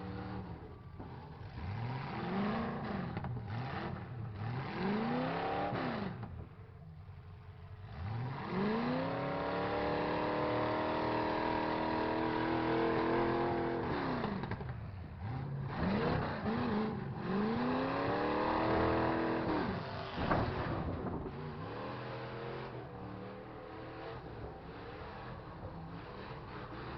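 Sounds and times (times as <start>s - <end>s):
truck engine revving: 0.0s - 6.5s, 7.8s - 26.9s.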